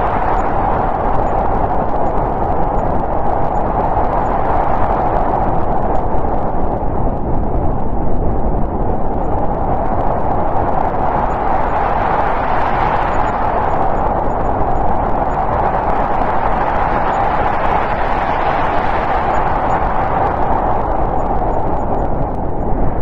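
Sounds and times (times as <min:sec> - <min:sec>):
snowstorm wind blowing: 0:00.0 - 0:23.0.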